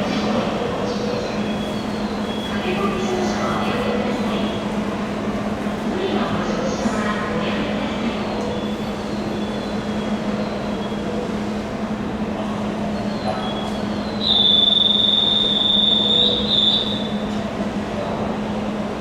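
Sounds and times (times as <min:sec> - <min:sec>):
train low hum: 0:00.0 - 0:19.0.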